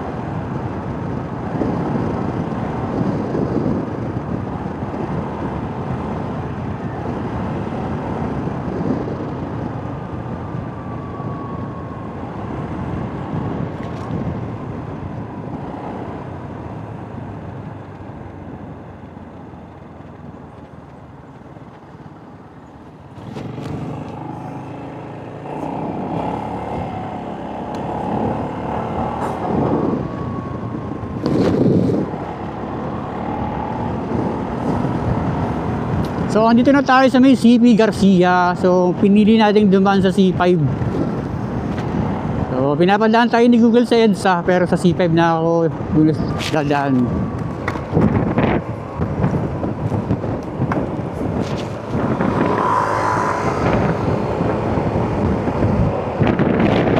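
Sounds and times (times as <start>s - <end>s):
motorcycle engine: 0.0s - 36.6s, 40.8s - 42.7s, 46.2s - 56.9s
trucks and cars passing: 0.0s - 56.9s.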